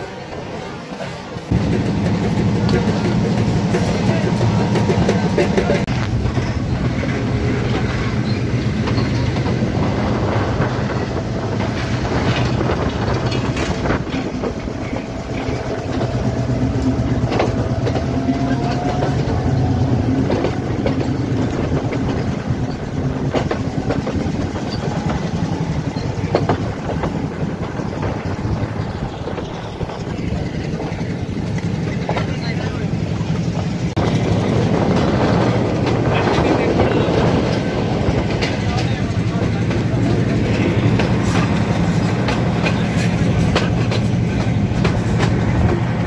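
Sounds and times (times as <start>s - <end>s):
train wheels rumbling on rails: 0.0s - 46.0s
clacks over rail joints: 0.3s - 46.0s.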